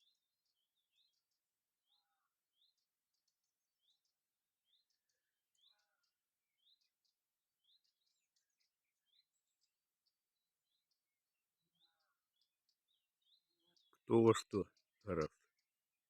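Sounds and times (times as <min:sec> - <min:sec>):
small birds calling thinly: 0:00.0 - 0:16.0.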